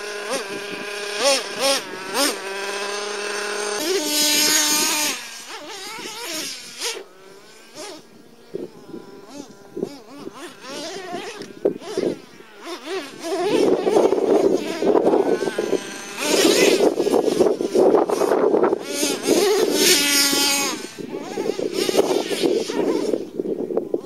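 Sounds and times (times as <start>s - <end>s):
small engine revving with buzzing whine: 0.0s - 24.0s.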